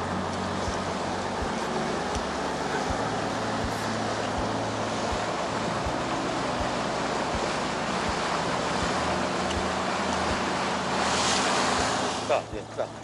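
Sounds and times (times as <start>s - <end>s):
boat engine hum: 0.0s - 13.0s
sea washing around boat: 0.0s - 13.0s.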